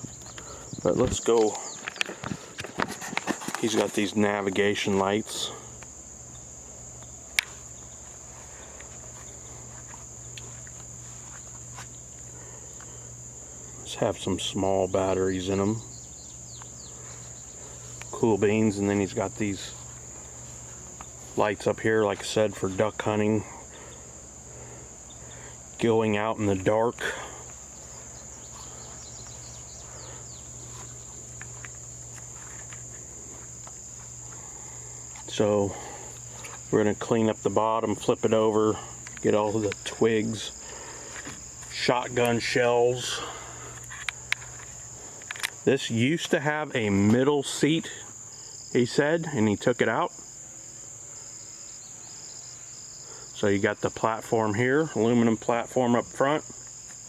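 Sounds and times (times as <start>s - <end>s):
crickets chirring: 0.0s - 57.0s
high-pitched insect chorus: 0.0s - 57.0s.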